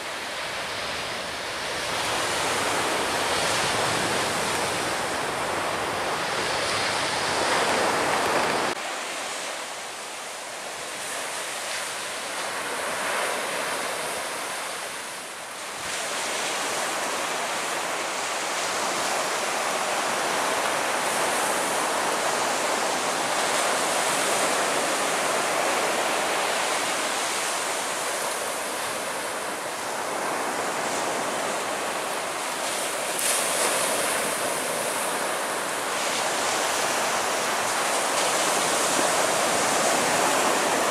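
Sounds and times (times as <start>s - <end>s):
wind on microphone: 0.0s - 9.5s, 10.8s - 40.9s
surf rushing: 0.0s - 40.9s.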